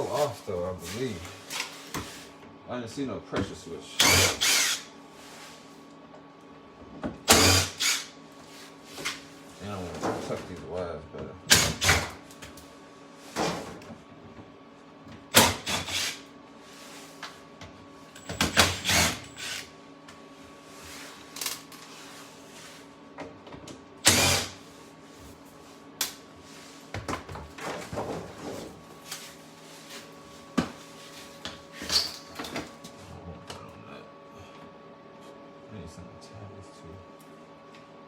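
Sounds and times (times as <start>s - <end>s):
faint electrical hum: 0.0s - 38.0s.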